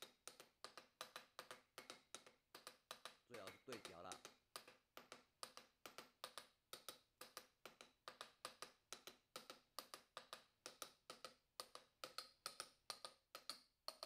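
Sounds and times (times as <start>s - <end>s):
hammer tapping on steel: 0.0s - 11.4s.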